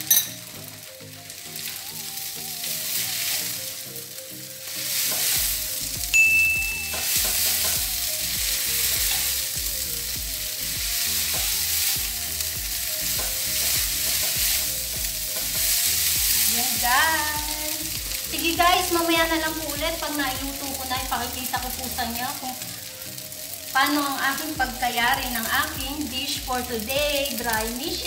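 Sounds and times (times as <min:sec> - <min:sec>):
noodles sizzling in frying pan: 0:00.0 - 0:28.0.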